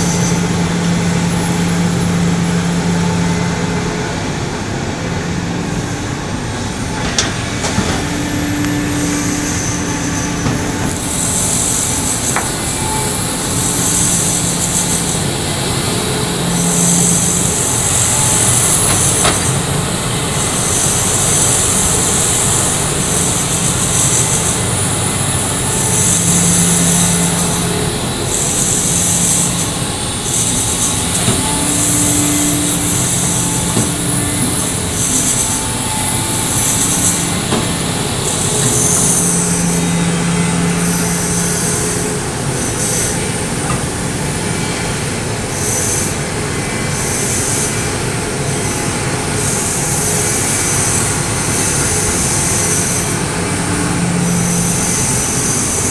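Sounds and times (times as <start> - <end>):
excavator diesel engine running: 0.0 - 55.9
high-pitched squeal: 0.0 - 55.9.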